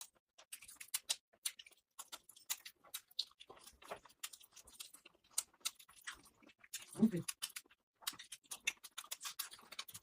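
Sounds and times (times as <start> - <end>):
wet chewing and lip smacking: 0.0 - 10.0.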